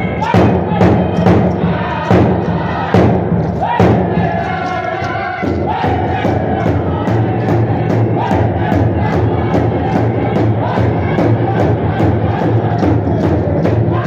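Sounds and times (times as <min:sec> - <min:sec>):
steady beats on large drum: 0:00.0 - 0:04.6, 0:05.4 - 0:14.0
group singing in unison: 0:00.0 - 0:14.0.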